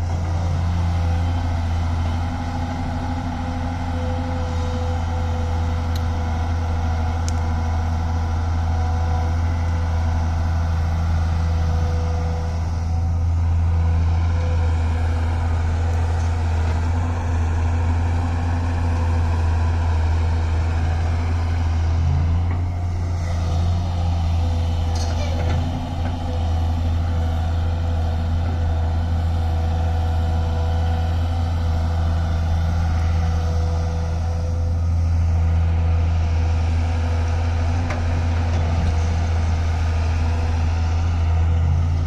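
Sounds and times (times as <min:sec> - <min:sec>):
excavator engine humming: 0:00.0 - 0:42.0.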